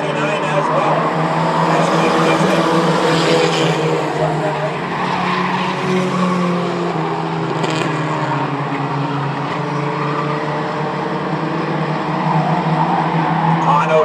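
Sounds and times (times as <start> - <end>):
race truck engines droning: 0.0 - 14.0.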